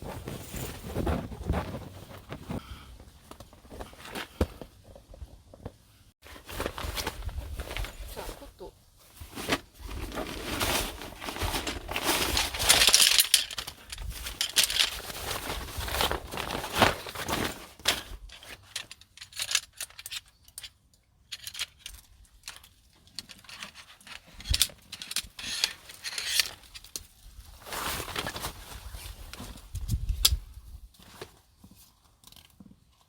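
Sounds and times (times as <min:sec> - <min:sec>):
rustling and crinkling: 0:00.0 - 0:33.0.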